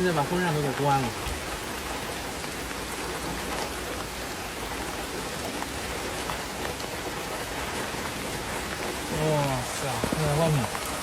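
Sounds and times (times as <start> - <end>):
heavy rain on a tarp roof: 0.0 - 11.0
rain drop ticks: 0.0 - 11.0.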